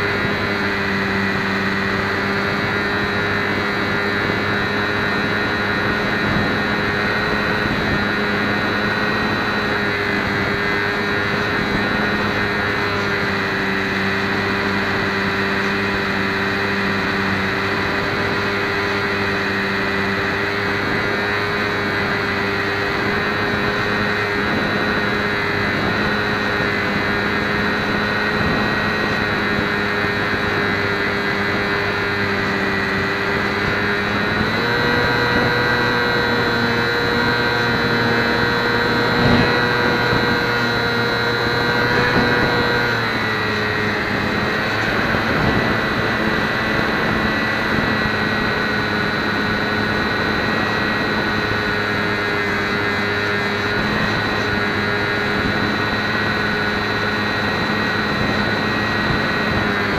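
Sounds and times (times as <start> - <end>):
electric motor and propeller whining: 0.0 - 59.9
wind noise on microphone: 0.0 - 59.9.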